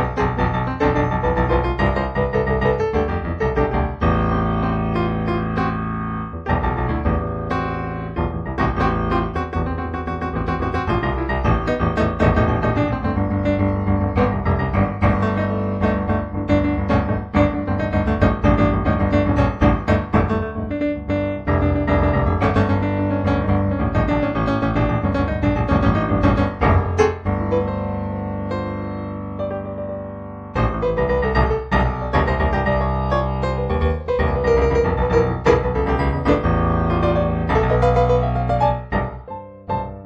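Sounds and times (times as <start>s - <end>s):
solo piano music: 0.0s - 40.0s.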